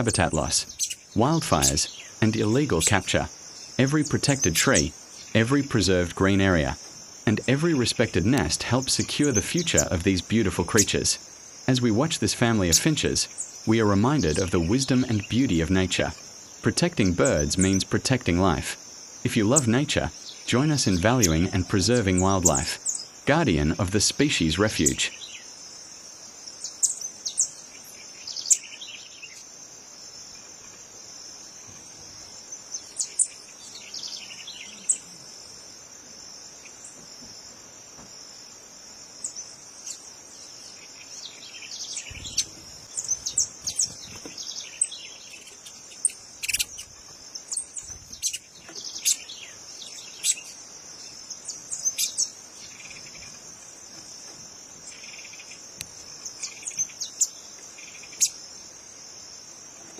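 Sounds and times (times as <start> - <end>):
bird chirps and calls: 0.0 - 18.6, 19.3 - 25.5, 26.5 - 29.5, 32.4 - 35.2, 39.2 - 58.4.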